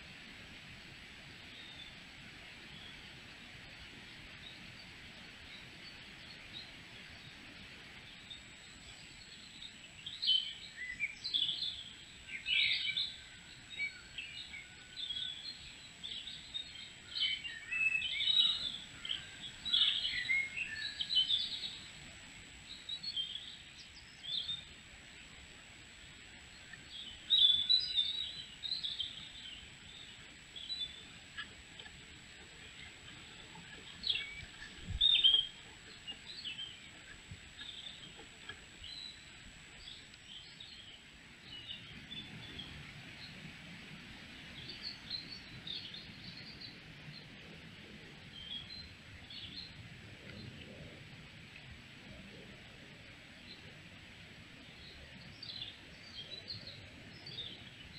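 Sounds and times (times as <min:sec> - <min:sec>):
steady hiss: 0:00.0 - 0:57.9
songbirds chirping: 0:01.4 - 0:57.9.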